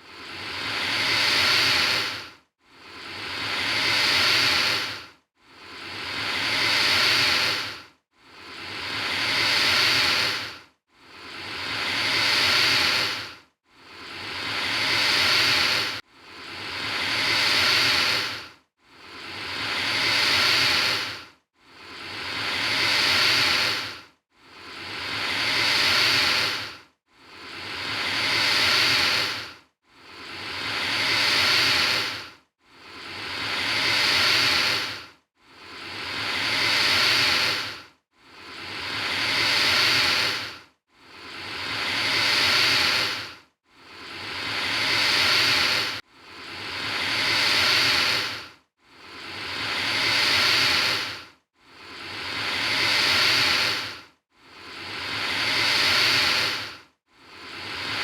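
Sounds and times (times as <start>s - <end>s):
alligator hissing: 0.3s - 2.2s, 2.9s - 5.0s, 5.7s - 7.8s, 8.4s - 10.5s, 11.2s - 13.3s, 13.9s - 16.0s, 16.6s - 18.4s, 19.1s - 32.2s, 32.9s - 40.6s, 41.2s - 43.3s, 43.9s - 48.4s, 49.1s - 51.2s, 51.9s - 54.0s, 54.7s - 58.0s.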